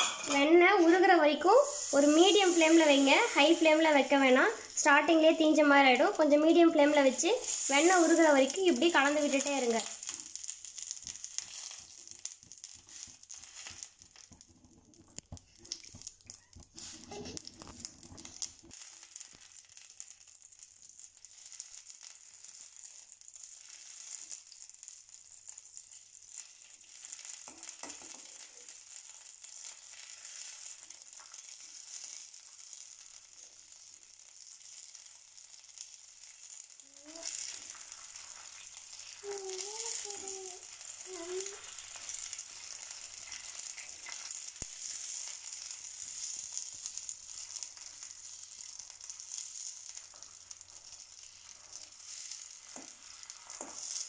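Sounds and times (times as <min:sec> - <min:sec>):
butter sizzling in a pan: 0:00.0 - 0:54.0.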